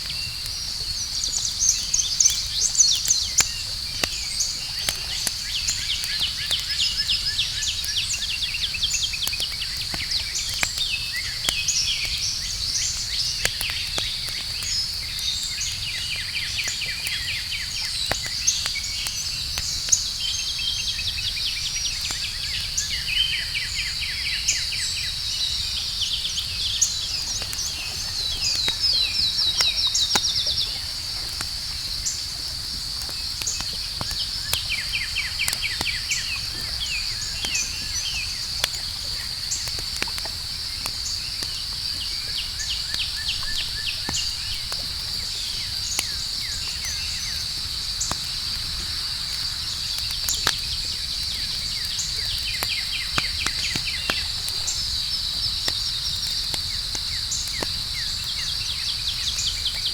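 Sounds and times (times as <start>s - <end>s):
campfire crackling and popping: 0.0s - 59.9s
crickets chirring: 0.0s - 59.9s.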